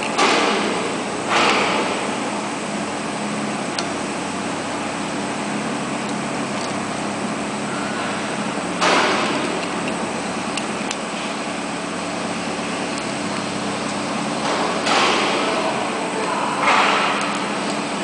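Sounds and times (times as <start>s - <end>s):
shop machinery humming: 0.0s - 18.0s.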